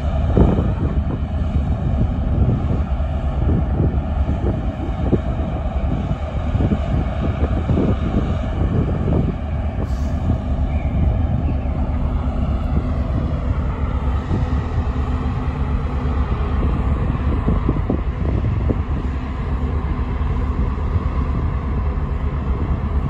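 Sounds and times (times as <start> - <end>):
ship engines deep drone: 0.0 - 23.0
wind buffeting microphone: 0.0 - 23.0.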